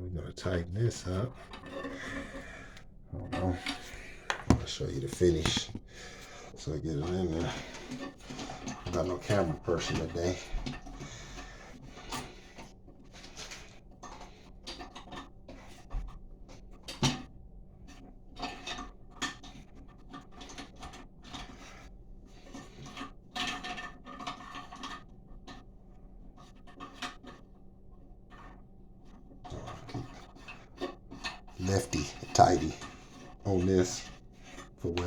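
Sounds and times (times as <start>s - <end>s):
toilet tank parts clicking and scraping: 0.4s - 35.0s.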